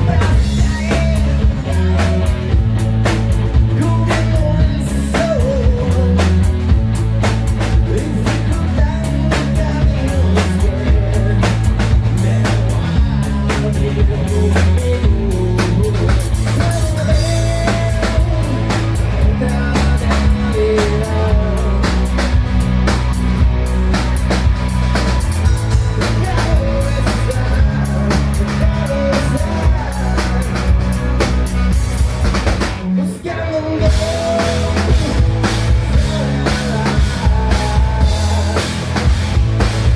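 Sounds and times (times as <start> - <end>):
person singing: 0.0 - 2.7, 3.5 - 6.7, 7.7 - 22.7, 24.2 - 31.6, 32.8 - 39.3
hard rock band playing live: 0.0 - 39.9.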